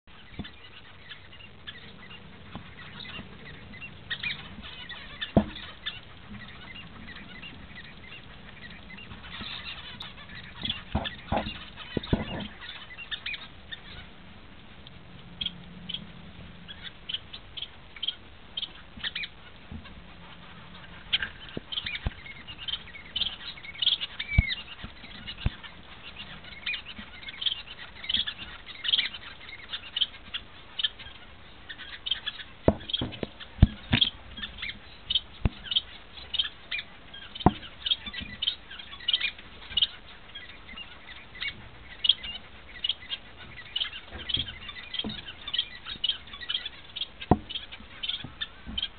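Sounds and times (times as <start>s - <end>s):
finches chirping: 0.1s - 48.9s.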